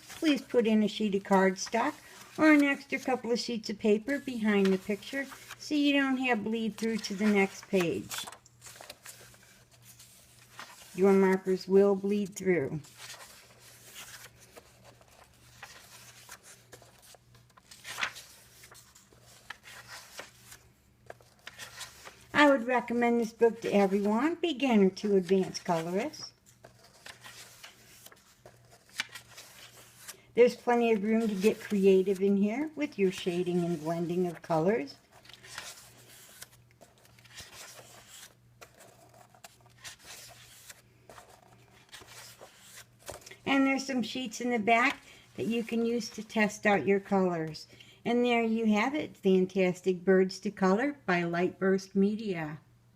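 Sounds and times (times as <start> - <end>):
paper pages rustling: 0.0 - 43.4.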